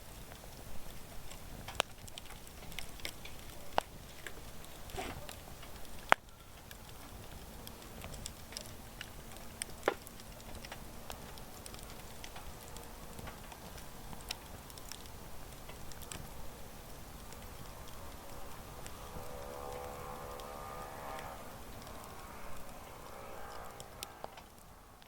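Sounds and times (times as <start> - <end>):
campfire crackling: 0.0 - 25.0
sharp fire snaps: 0.0 - 25.0.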